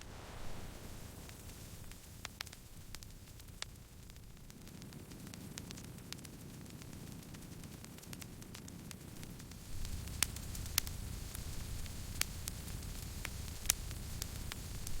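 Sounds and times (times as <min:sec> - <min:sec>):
campfire crackling and popping: 0:00.0 - 0:15.0
low rumble of burning fire: 0:00.0 - 0:15.0.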